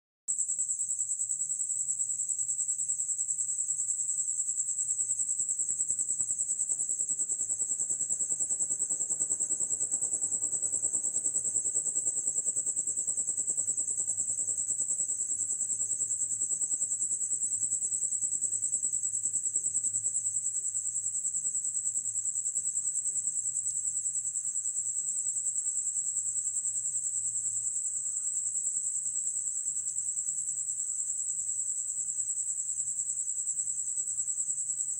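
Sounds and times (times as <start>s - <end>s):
insects trilling: 3.2s - 34.9s.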